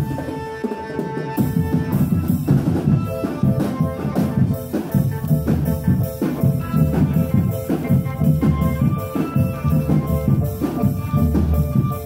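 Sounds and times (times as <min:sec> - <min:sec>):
marching drums beating: 0:00.0 - 0:12.0
pitched melody: 0:00.0 - 0:12.0.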